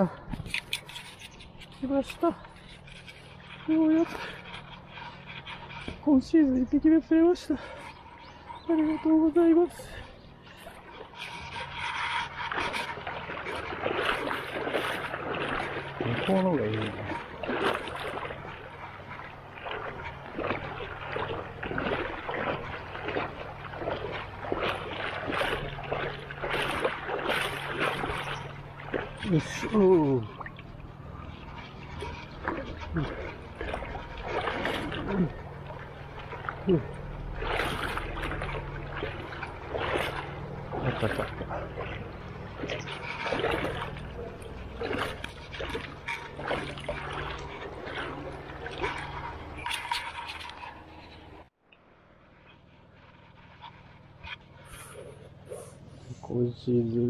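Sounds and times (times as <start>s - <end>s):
footsteps wading through water: 0.0s - 57.0s
steady low rumble: 0.0s - 57.0s.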